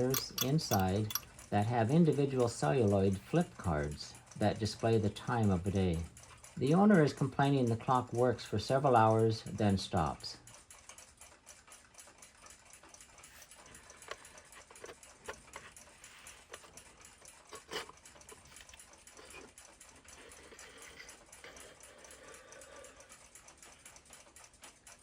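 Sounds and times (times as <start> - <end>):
clock parts clicking and tapping: 0.0 - 25.0.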